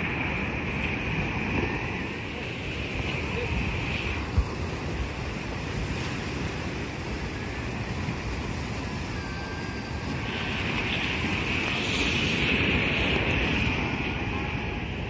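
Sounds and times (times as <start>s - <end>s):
surf breaking on rocky shore: 0.0s - 15.0s
wind rumbling on microphone: 0.0s - 15.0s.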